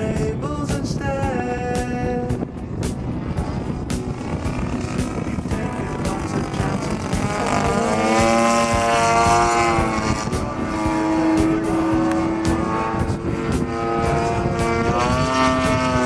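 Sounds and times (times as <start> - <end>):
model airplane engine in flight: 2.4 - 16.0.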